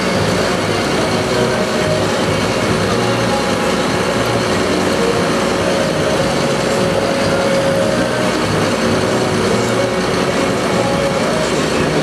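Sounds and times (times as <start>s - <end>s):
diesel truck engine running: 0.0s - 12.0s
steady whine: 0.0s - 12.0s.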